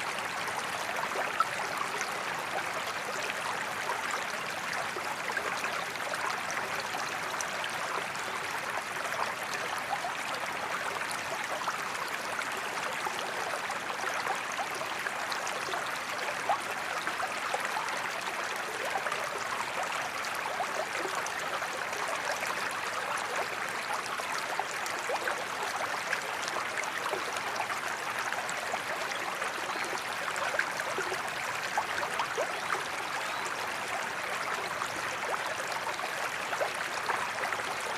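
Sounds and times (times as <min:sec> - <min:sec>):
creek babbling: 0:00.0 - 0:37.9.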